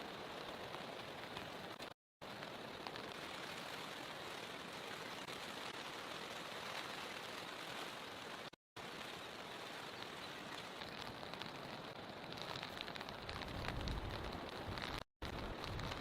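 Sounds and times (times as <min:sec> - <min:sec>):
faint raindrop ticks: 0:00.0 - 0:16.0
steady rain hiss: 0:00.0 - 0:16.0.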